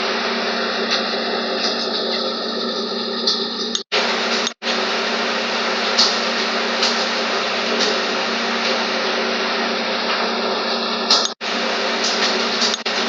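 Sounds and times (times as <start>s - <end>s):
motor hum with hiss: 0.0s - 13.0s.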